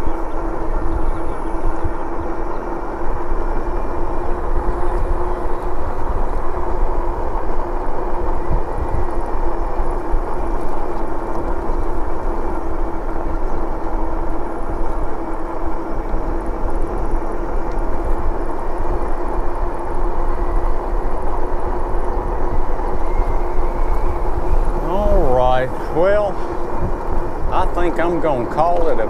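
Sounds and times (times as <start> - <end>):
bike road noise: 0.0 - 29.0
steady mid-pitched hum: 0.0 - 29.0
wind on microphone: 0.0 - 29.0.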